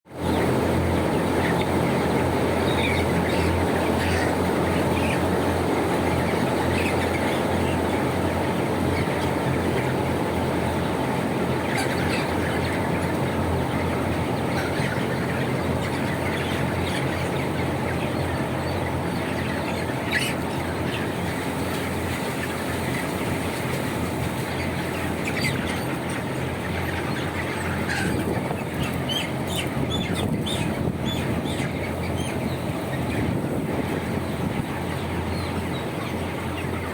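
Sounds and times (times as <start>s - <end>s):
chickens chirping and peeping: 0.1s - 36.9s
steady mechanical hum: 0.1s - 36.9s.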